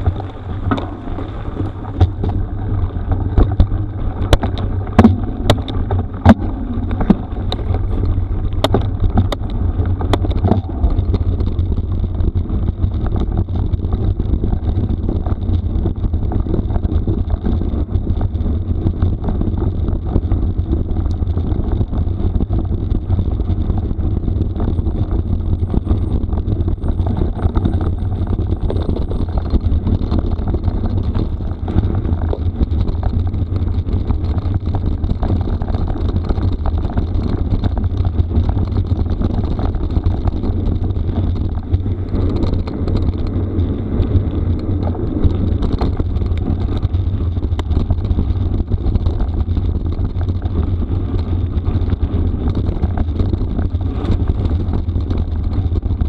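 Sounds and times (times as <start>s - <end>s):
bike tyres and rattle on gravel: 0.0s - 56.0s
wind rumbling on microphone: 0.0s - 56.0s.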